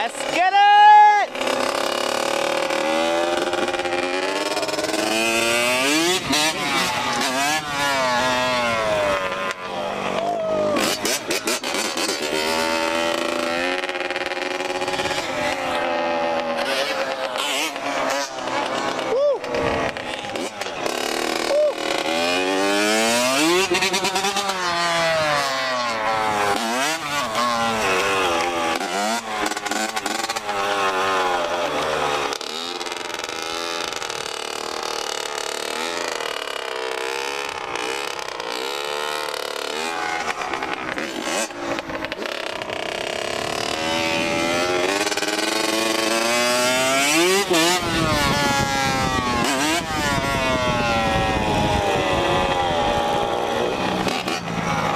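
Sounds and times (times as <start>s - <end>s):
off-road vehicle engine revving: 1.2s - 54.9s.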